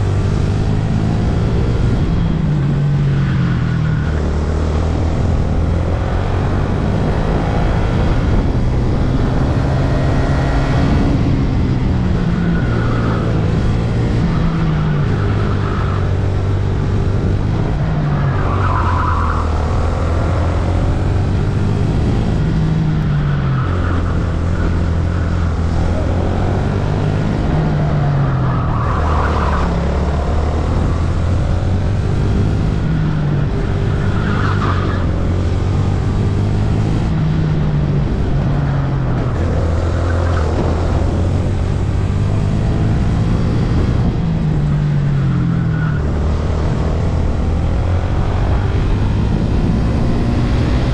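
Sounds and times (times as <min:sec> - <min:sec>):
wind noise: 0:00.0 - 0:50.9
kart engine revving: 0:03.6 - 0:50.9.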